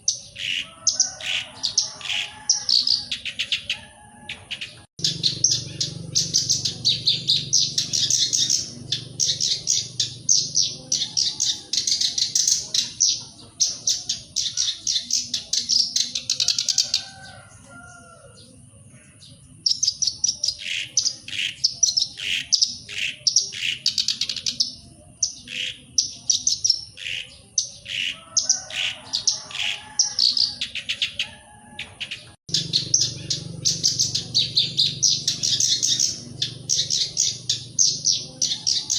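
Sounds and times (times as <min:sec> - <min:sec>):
warbler singing: 0:00.0 - 0:38.9.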